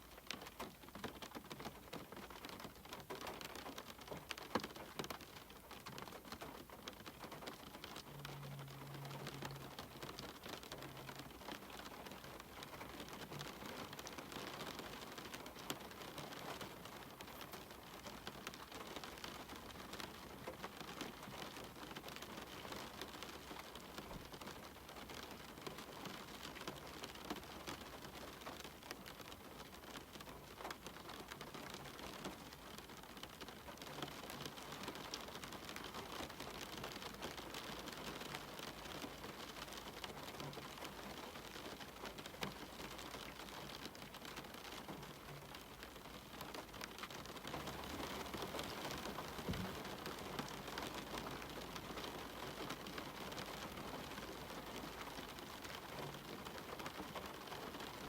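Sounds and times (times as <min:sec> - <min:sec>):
rain on a window: 0:00.0 - 0:58.0
raindrops ticking: 0:00.0 - 0:58.0.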